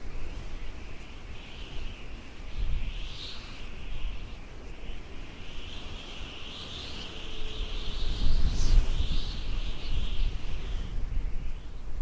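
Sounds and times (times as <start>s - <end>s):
wavering high-pitched hiss: 0.0s - 12.0s
wind buffeting microphone: 0.0s - 12.0s.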